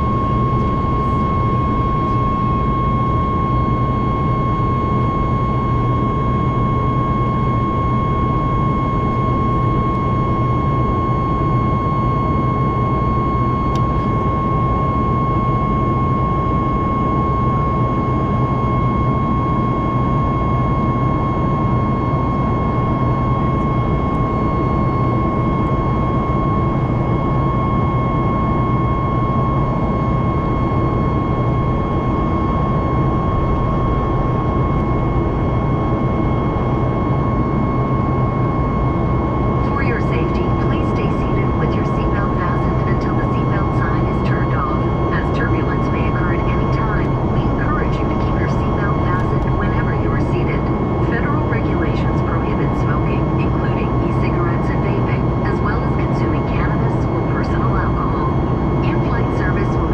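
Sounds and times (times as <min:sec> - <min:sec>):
constant high whine: 0:00.0 - 0:59.9
jet engines roaring: 0:00.0 - 0:59.9.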